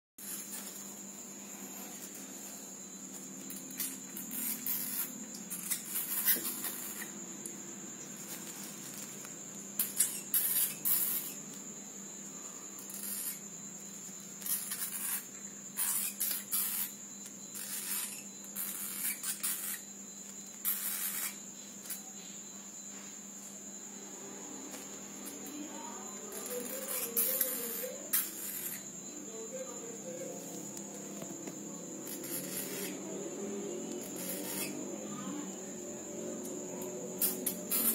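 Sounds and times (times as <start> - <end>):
high-pitched whine: 0.2 - 37.9.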